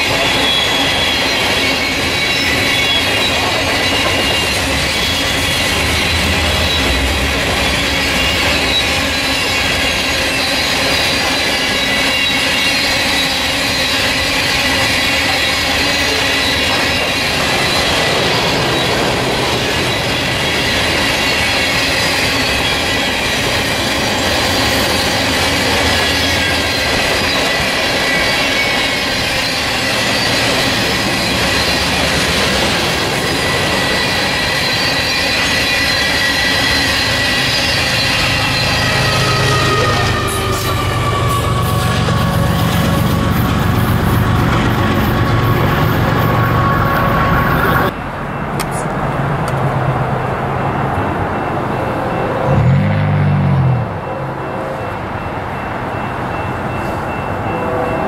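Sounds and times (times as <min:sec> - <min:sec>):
wheels squealing on rail: 0:00.0 - 0:49.2, 0:50.4 - 0:58.0
freight train wheels rumbling: 0:00.0 - 0:58.0.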